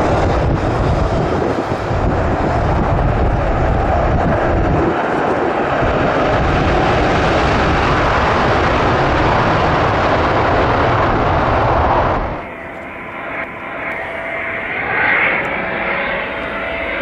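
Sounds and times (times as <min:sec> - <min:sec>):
loud jet engine roar: 0:00.0 - 0:17.0.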